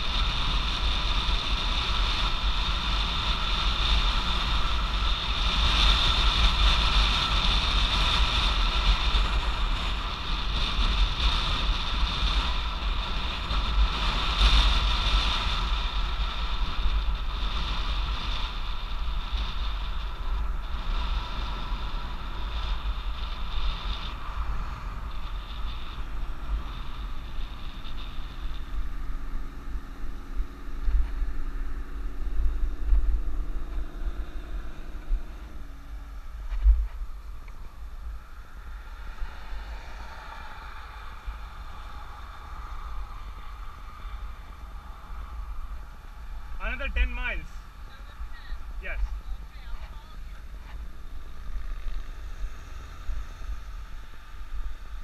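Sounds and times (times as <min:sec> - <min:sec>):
steady low rumble: 0:00.0 - 0:55.0
tyre noise on paved road: 0:00.0 - 0:55.0
wind buffeting microphone: 0:00.0 - 0:55.0.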